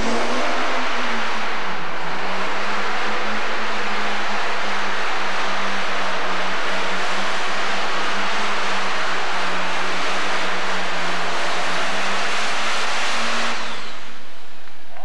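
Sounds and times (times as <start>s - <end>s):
diesel engine droning loudly: 0.0s - 14.6s.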